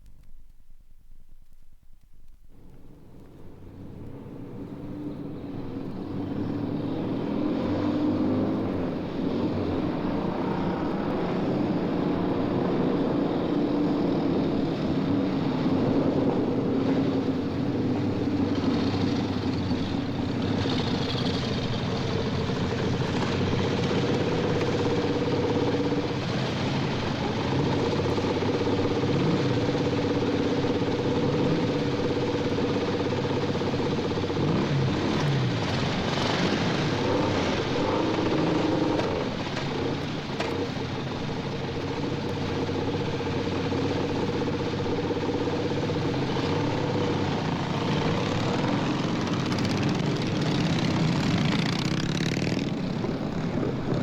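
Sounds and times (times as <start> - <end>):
motorcycle engine running: 2.7 - 54.0.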